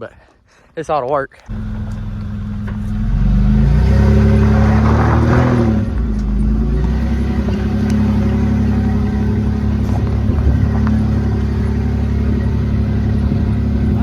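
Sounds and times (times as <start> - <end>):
vehicle engine running: 1.5 - 14.0.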